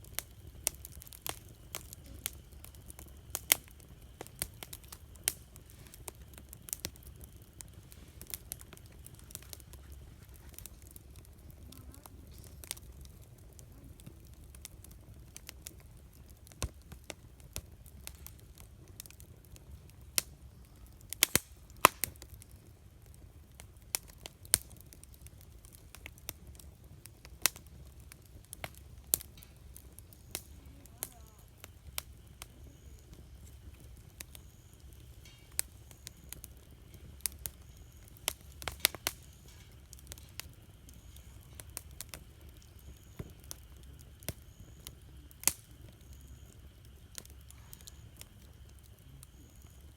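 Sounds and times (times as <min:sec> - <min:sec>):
campfire crackling and popping: 0:00.0 - 0:49.9
faint low rumble: 0:00.0 - 0:49.9.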